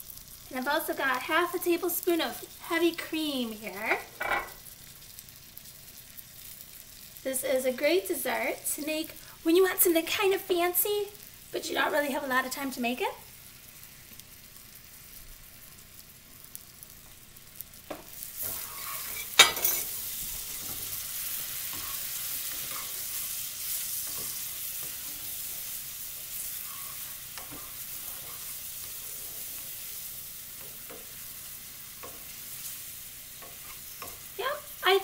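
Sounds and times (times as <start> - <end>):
sauce sizzling in a skillet: 0.0 - 35.0.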